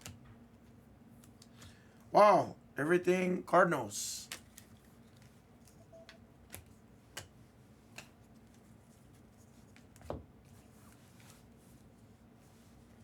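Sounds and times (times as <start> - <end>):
quiet room hum: 0.0 - 13.0.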